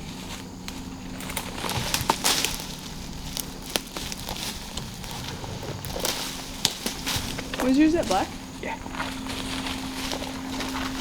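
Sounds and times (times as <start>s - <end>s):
dry leaves crackling and rustling: 0.0s - 11.0s.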